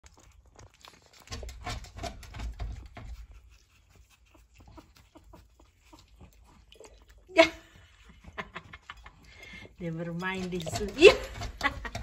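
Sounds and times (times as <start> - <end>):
puppies lapping milk: 0.0 - 12.0.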